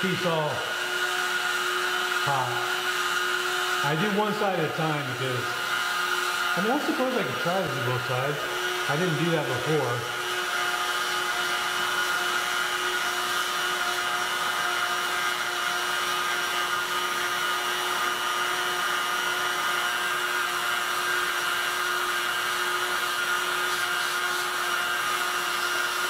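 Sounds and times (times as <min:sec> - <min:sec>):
heat gun blowing with whine: 0:00.0 - 0:26.0.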